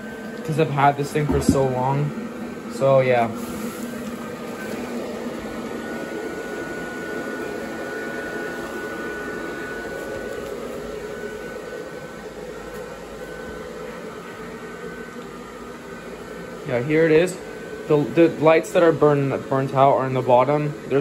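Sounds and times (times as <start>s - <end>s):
blower fan rushing air: 0.0s - 21.0s
faint high whine: 0.0s - 21.0s.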